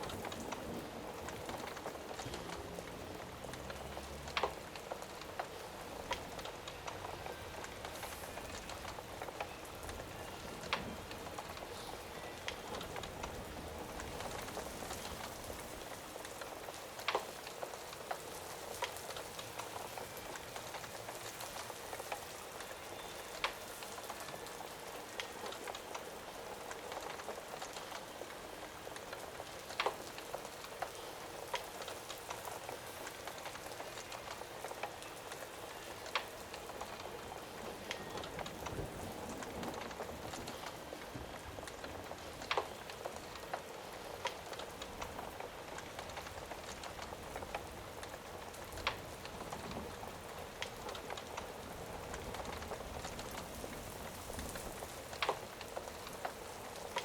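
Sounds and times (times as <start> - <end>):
fire crackling and popping: 0.0 - 57.0
rain hissing: 0.0 - 57.0.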